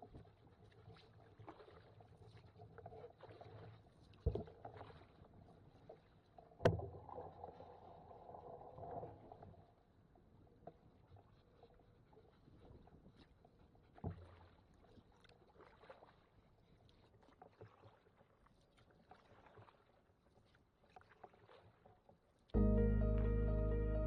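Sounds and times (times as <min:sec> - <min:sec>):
paddle strokes in water: 0:00.0 - 0:22.5.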